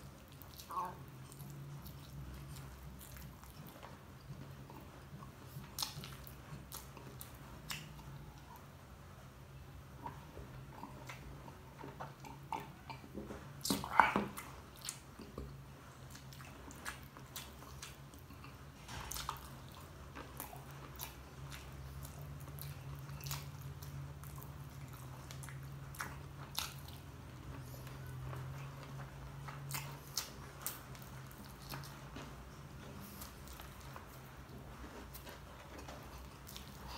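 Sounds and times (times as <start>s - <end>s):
chewing and wet mouth smacks: 0.0s - 8.7s, 9.9s - 36.9s.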